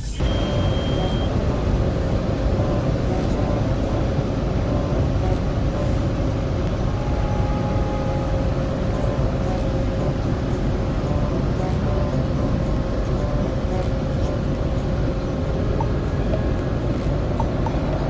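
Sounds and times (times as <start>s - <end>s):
car wash rushing noise: 0.0s - 18.0s
faint even hum: 0.0s - 18.0s.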